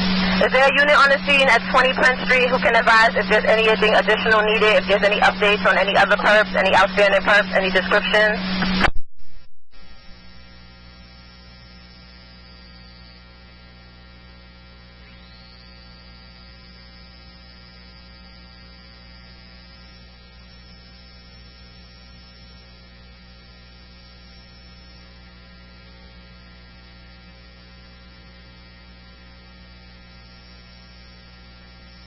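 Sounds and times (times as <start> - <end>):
electrical hum with faint hiss: 0.0 - 9.0, 9.8 - 32.0.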